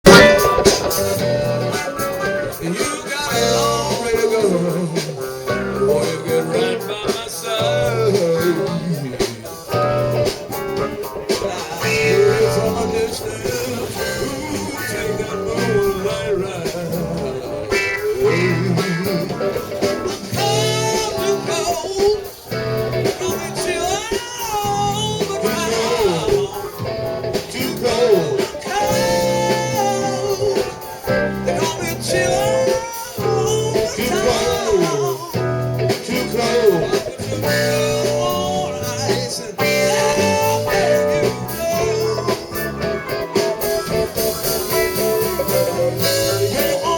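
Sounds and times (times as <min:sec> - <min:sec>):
blues-rock band playing: 0:00.0 - 0:46.9
electric guitar lead: 0:00.0 - 0:46.9.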